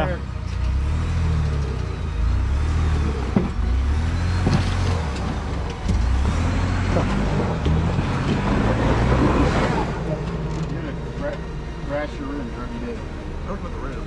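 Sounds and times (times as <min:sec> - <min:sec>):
engine running under load: 0:00.0 - 0:14.0.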